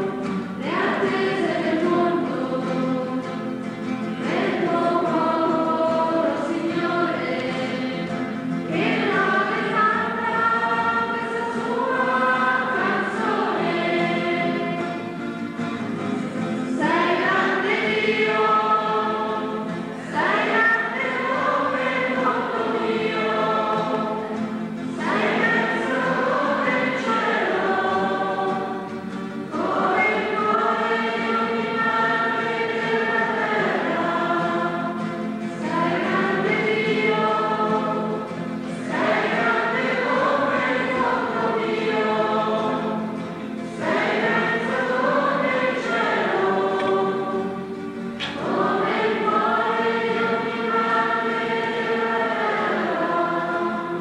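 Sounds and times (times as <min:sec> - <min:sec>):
group singing a hymn: 0:00.0 - 0:54.0.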